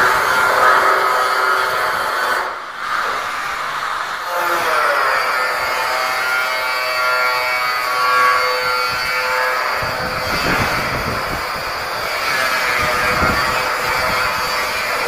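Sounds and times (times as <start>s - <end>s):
welder hum: 0.0s - 15.0s.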